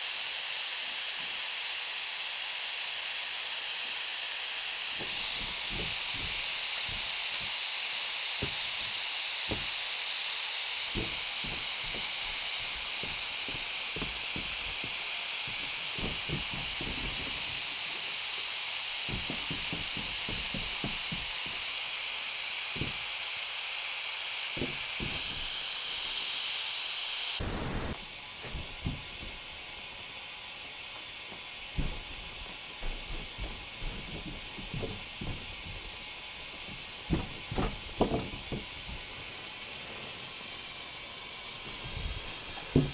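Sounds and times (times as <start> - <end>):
recording hiss: 4.8 - 42.9.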